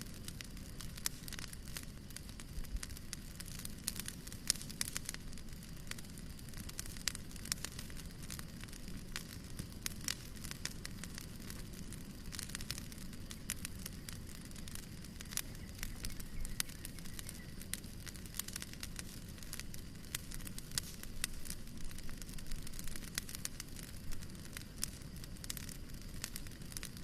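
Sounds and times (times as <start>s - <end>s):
low rumble of flames: 0.0s - 27.0s
wood fire crackling and popping: 0.0s - 27.0s.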